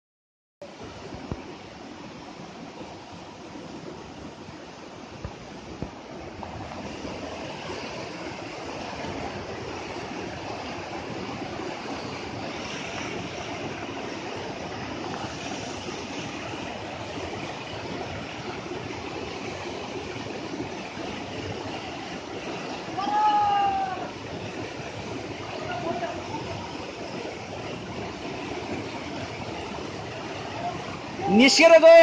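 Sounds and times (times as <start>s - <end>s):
river rushing over rapids: 0.6s - 32.0s.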